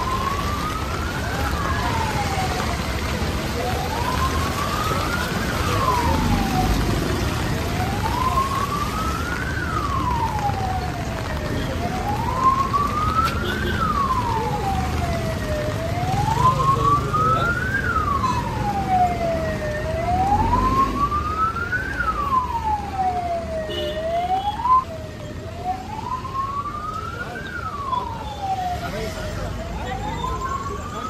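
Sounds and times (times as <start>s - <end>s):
emergency siren wailing: 0.0s - 31.0s.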